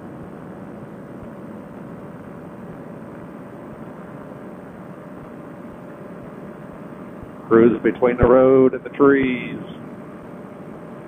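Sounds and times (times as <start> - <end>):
faint steady hum: 0.0 - 11.0
paramotor engine drone: 0.0 - 11.0.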